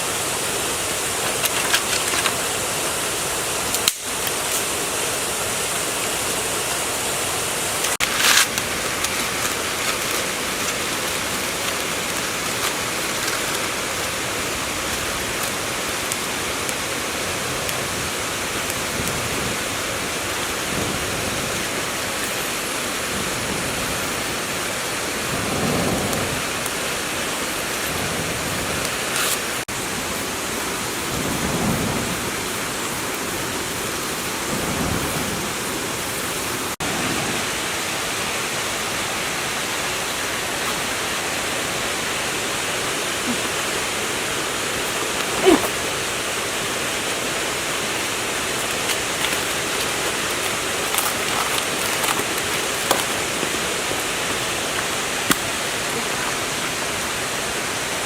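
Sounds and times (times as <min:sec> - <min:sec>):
steady rushing hiss: 0:00.0 - 0:58.0.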